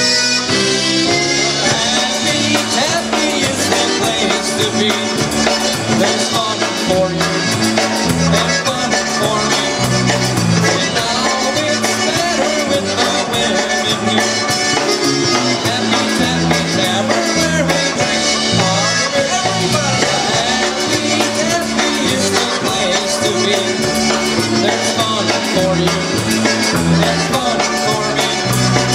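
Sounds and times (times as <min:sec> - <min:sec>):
polka band playing: 0:00.0 - 0:28.9.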